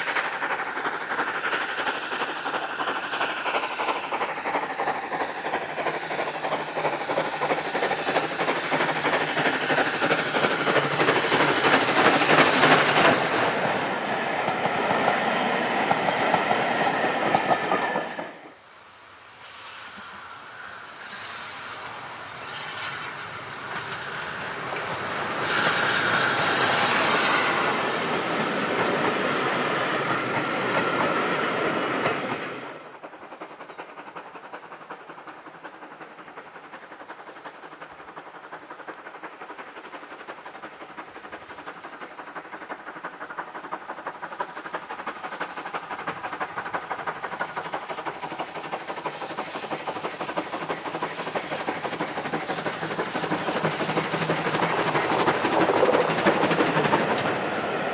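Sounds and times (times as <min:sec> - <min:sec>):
steam locomotives passing: 0:00.0 - 0:57.9.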